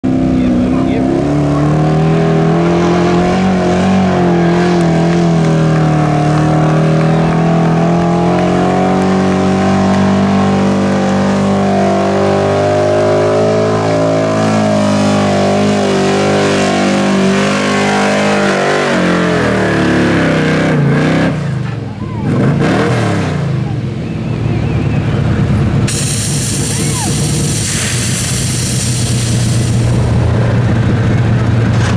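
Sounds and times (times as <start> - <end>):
truck engine at full throttle: 0.0 - 31.9.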